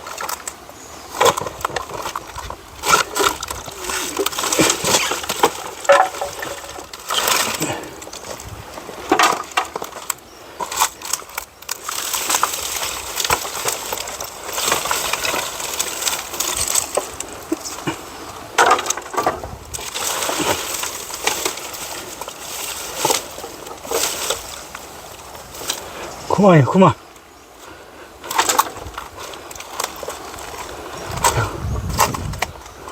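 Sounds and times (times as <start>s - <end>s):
rustling: 0.0s - 26.4s, 27.0s - 32.9s
dry wood crackling and snapping: 0.0s - 32.9s.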